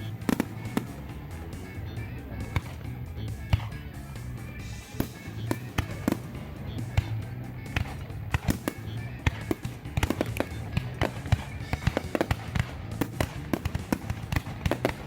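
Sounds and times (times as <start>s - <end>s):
fireworks bangs and crackles: 0.0s - 1.6s, 2.3s - 3.0s, 4.8s - 15.0s
background music: 0.0s - 15.0s.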